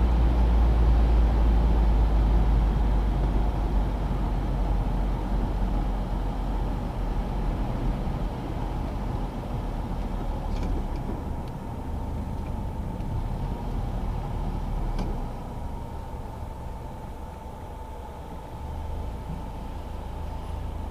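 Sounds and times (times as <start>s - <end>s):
car engine and road noise: 0.0s - 20.9s.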